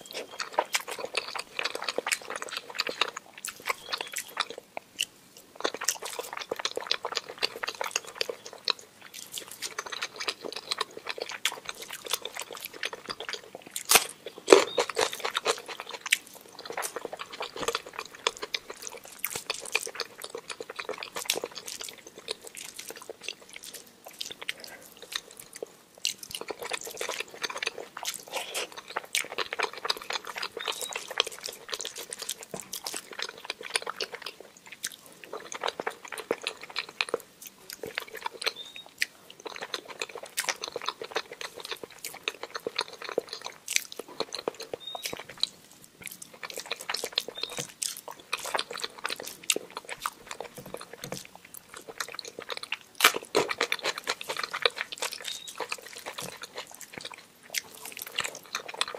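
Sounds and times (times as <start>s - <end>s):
wet chewing and mouth sounds: 0.0s - 58.9s.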